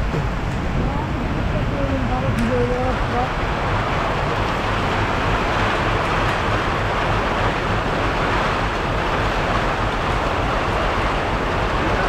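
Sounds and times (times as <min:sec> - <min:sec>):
heavy rain hissing: 0:00.0 - 0:12.0
low rumble: 0:00.0 - 0:12.0.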